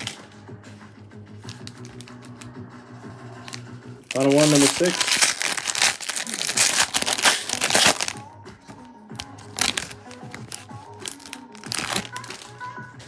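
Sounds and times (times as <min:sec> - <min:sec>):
background music: 0:00.0 - 0:13.0
foil wrapper crinkling: 0:01.4 - 0:02.5, 0:03.5 - 0:13.0.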